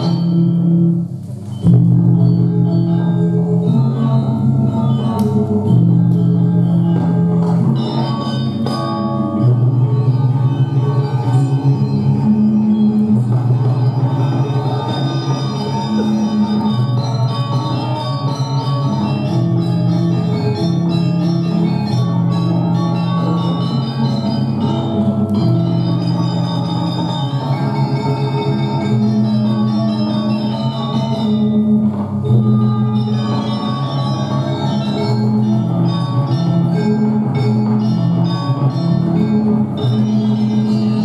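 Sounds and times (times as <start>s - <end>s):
gamelan music: 0.0s - 41.0s.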